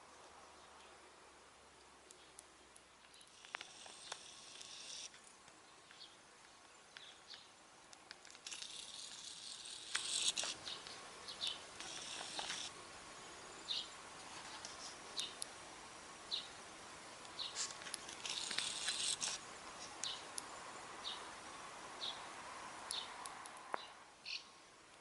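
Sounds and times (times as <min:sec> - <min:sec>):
high buzzing hiss: 0:00.0 - 0:25.0.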